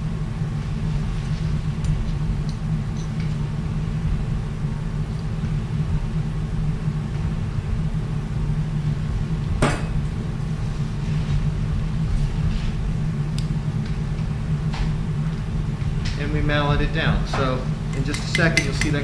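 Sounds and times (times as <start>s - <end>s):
equipment humming: 0.0s - 19.0s.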